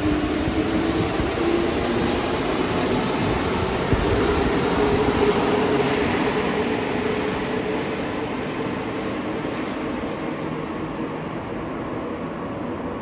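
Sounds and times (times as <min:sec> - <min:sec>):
train rumble and hiss: 0:00.0 - 0:12.9.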